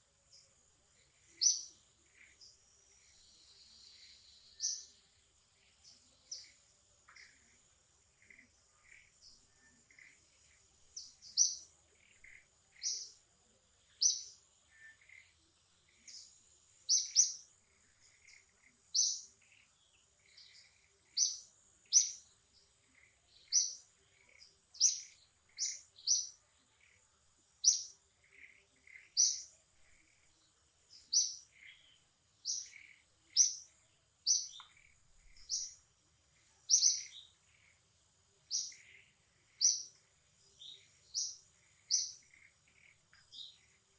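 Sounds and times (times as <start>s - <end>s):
bird chirping: 0.0s - 43.9s.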